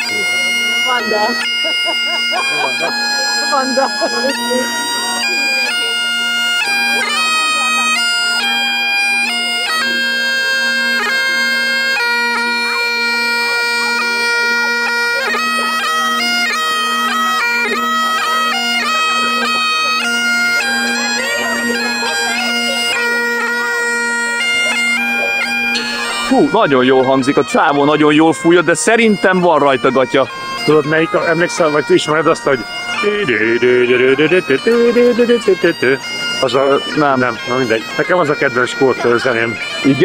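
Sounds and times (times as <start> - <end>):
bagpipes playing: 0.0 - 40.0.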